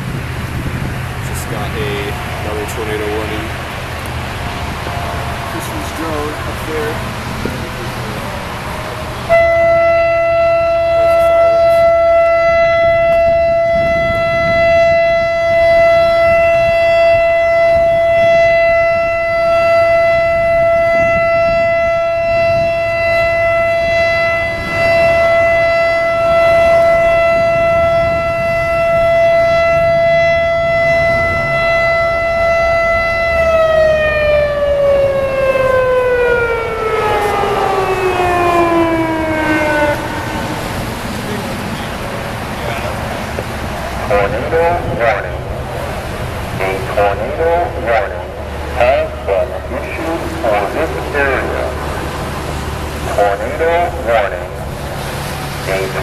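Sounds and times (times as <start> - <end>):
electronic warning siren: 8.4 - 42.0, 43.9 - 56.0.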